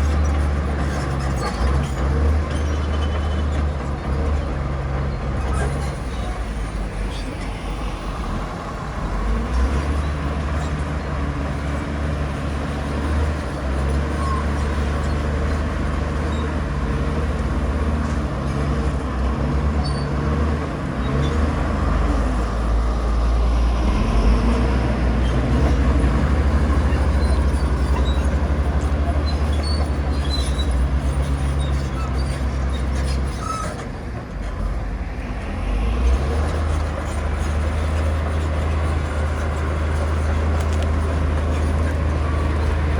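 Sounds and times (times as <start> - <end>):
heavy diesel machinery engine drone: 0.0 - 42.9.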